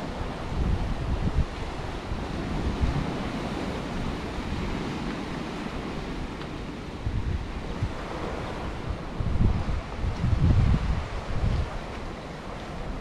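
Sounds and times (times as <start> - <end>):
sea water washing: 0.0 - 13.0
wind blowing across microphone: 0.0 - 13.0.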